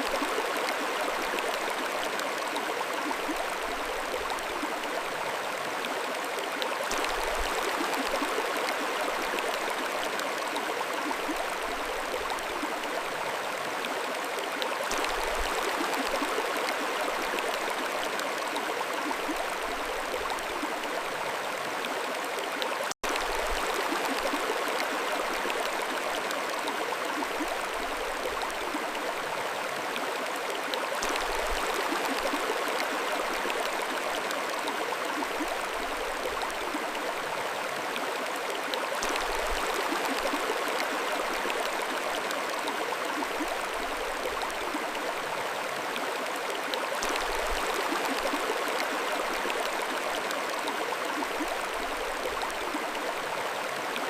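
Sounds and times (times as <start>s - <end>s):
stream splashing over stones: 0.0s - 54.0s.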